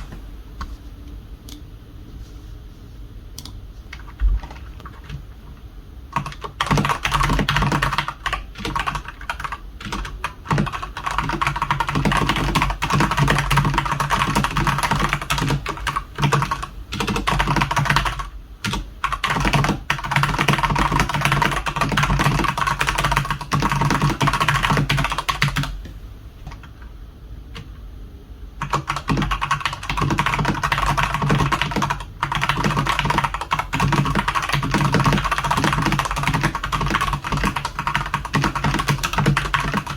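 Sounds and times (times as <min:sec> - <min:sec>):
mechanical keyboard typing: 0:03.4 - 0:05.4, 0:06.1 - 0:25.8, 0:28.6 - 0:39.9.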